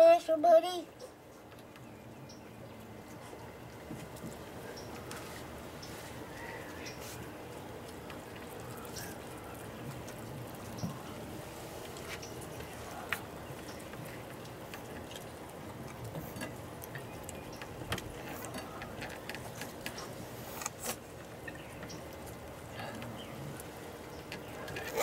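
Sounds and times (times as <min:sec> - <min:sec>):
cats crunching dry food: 0:02.8 - 0:25.0.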